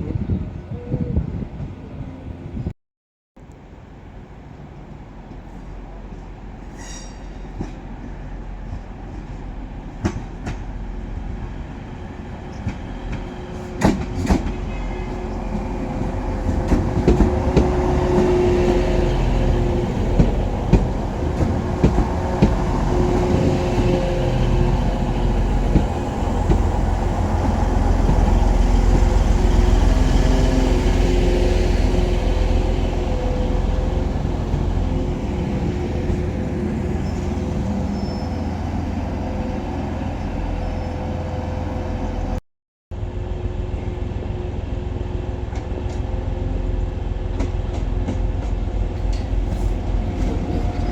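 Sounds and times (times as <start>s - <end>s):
train engine hum: 3.4s - 42.4s, 43.0s - 50.9s
train heavy rumble: 4.0s - 42.4s, 43.0s - 50.9s.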